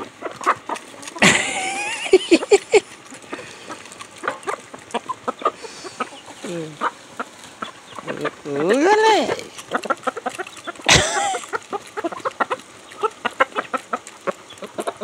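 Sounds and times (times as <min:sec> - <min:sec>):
beaks pecking corn: 0:00.0 - 0:15.0
hen call: 0:00.0 - 0:15.0
hens clucking: 0:00.0 - 0:15.0.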